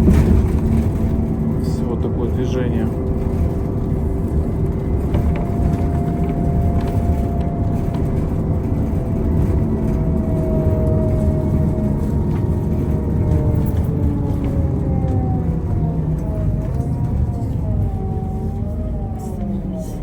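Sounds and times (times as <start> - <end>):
vehicle engine rumble with whine: 0.0 - 20.0.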